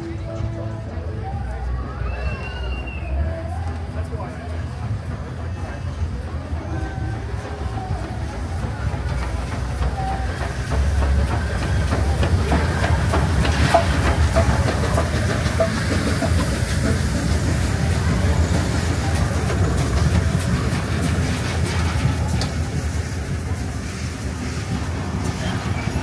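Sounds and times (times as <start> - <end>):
steam train low rumble: 0.0 - 26.0
wheels clicking on rails: 0.0 - 26.0.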